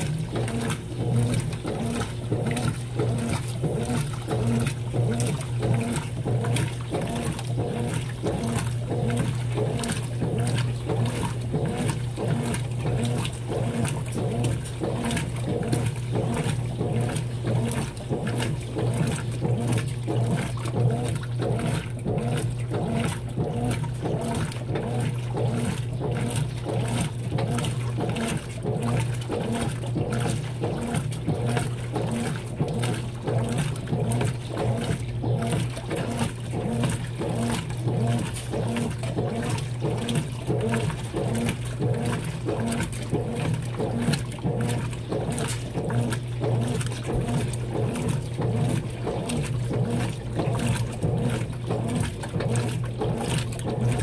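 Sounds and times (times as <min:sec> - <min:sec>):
washing machine motor hum: 0:00.0 - 0:54.0
water sloshing in washing machine: 0:00.0 - 0:54.0.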